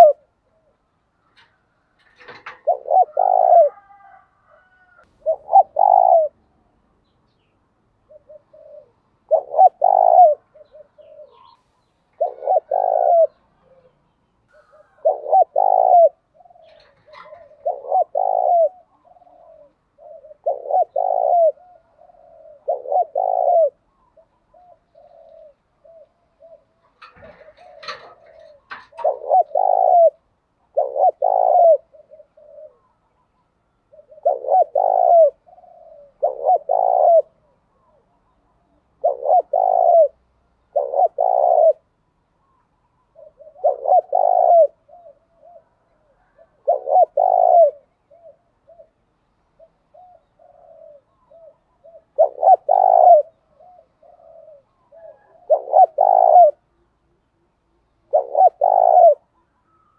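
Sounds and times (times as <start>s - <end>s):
dove cooing: 0.0s - 6.6s, 8.0s - 56.8s, 58.0s - 59.9s.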